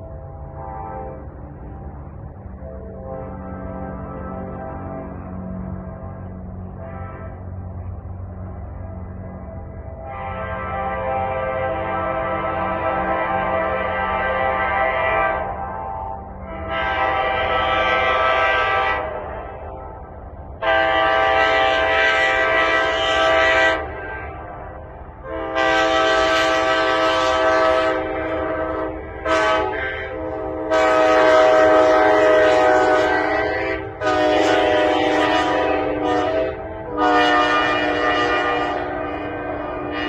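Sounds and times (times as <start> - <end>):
train horn blasts: 0.0 - 40.0.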